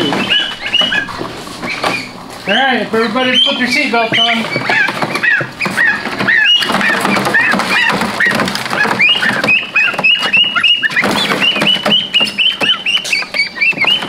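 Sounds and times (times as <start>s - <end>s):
scattered knocks: 0.0s - 2.3s, 4.0s - 14.0s
geese and ducks peeping: 0.0s - 14.0s.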